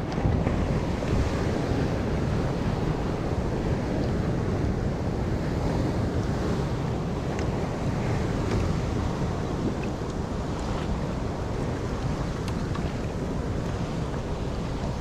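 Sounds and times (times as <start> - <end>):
sea water washing around kayak: 0.0 - 15.0
wind buffeting microphone: 0.0 - 15.0.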